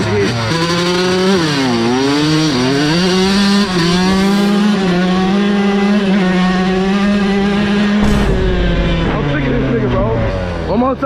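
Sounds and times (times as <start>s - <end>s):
dirt bike engine revving high: 0.0s - 11.0s.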